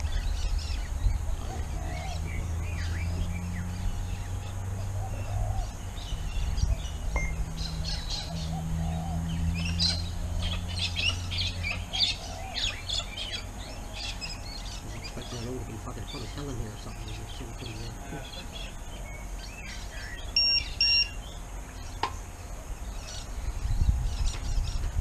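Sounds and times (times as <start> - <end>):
birds chirping: 0.0 - 25.0
low steady hum: 0.0 - 25.0.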